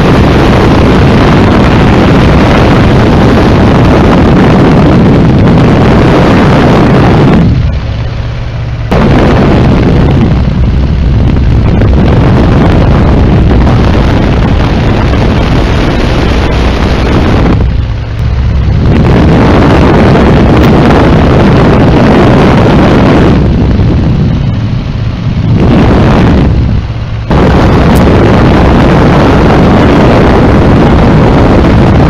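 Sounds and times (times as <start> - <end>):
aircraft engine drone: 0.0 - 32.0
wind rushing over microphone: 0.0 - 32.0.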